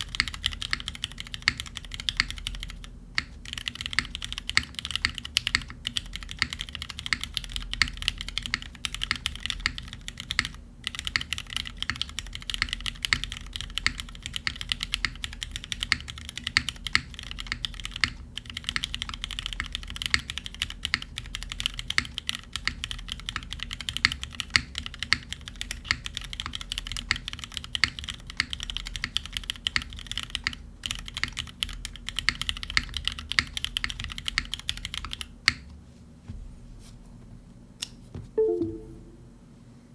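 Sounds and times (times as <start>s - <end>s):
fast typing on mechanical keyboard: 0.0s - 35.6s.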